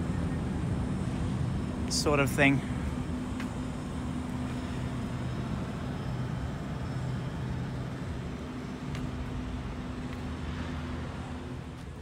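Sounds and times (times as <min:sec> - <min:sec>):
electric train low hum: 0:00.0 - 0:12.0.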